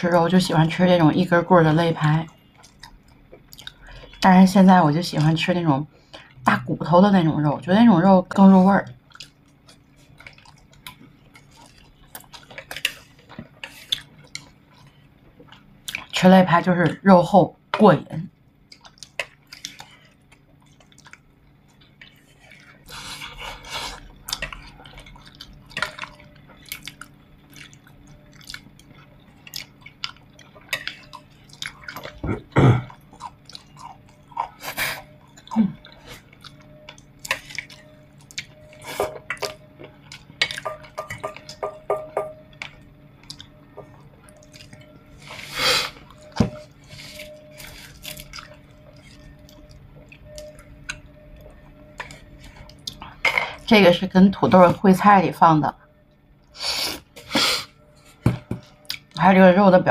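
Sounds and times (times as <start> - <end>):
people chewing ribs: 0.2 - 7.3, 8.0 - 16.4, 18.6 - 41.7, 42.5 - 53.7, 56.1 - 59.2.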